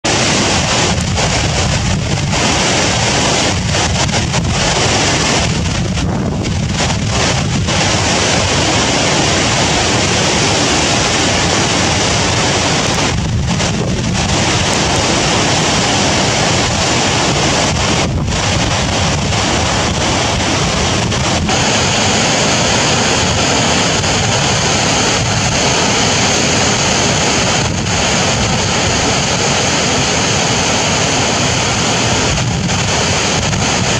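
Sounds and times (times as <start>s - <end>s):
floodwater rushing over dam spillway: 0.0s - 33.9s.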